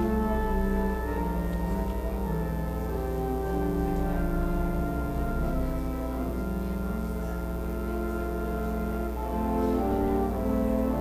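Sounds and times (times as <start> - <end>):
organ playing sustained chords: 0.0 - 11.0.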